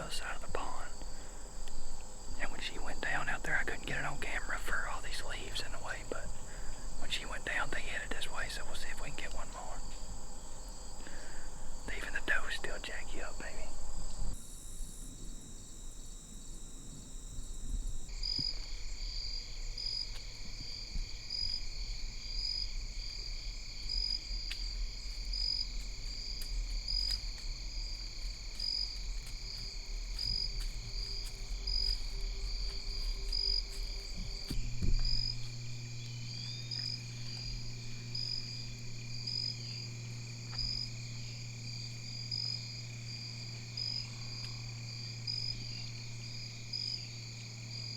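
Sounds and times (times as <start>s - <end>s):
insects trilling: 0.0s - 47.9s
low hum: 0.0s - 47.9s
pulsing insect call: 0.0s - 47.9s.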